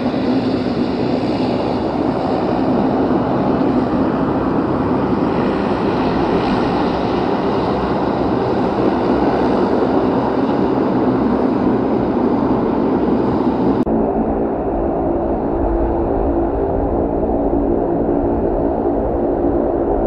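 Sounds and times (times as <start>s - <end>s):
turboprop engines running: 0.0s - 20.0s.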